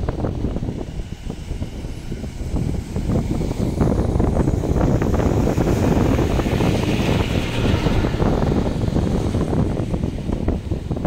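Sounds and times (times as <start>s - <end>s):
wind buffeting microphone: 0.0s - 11.0s
bus driving past: 0.1s - 11.0s.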